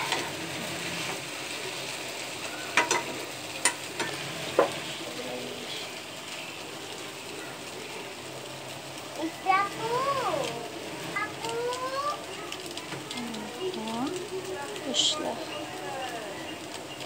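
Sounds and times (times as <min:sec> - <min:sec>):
noodles sizzling in a wok: 0:00.0 - 0:17.0.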